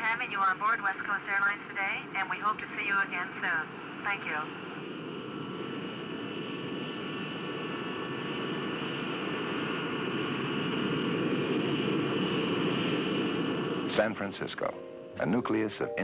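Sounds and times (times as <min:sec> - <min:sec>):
jet engines whining while taxiing: 0:00.0 - 0:15.5.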